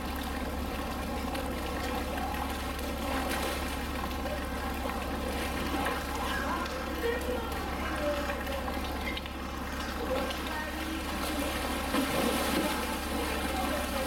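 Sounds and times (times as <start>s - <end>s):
constant low hum: 0.0s - 14.0s
water trickling: 0.0s - 14.0s.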